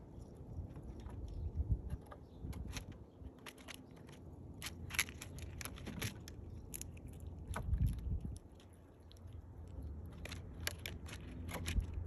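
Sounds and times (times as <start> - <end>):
squirrel cracking seed shells: 0.0 - 12.0.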